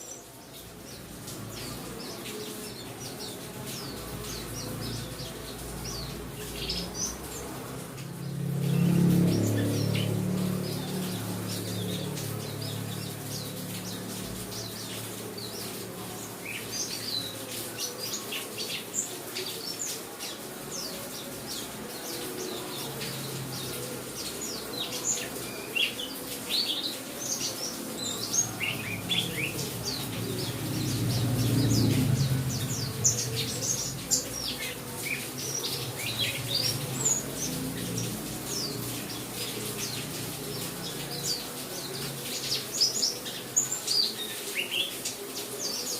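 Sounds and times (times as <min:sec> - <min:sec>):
birds chirping and twittering: 0:00.0 - 0:45.9.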